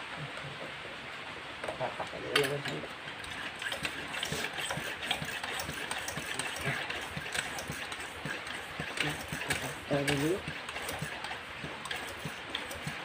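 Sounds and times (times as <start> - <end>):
hand air pump strokes: 2.4 - 13.0.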